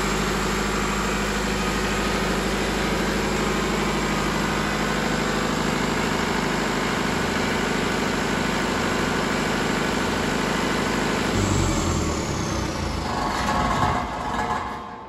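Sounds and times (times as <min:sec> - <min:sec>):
diesel generator engine running: 0:00.0 - 0:15.0
engine winding down whine: 0:00.0 - 0:15.0.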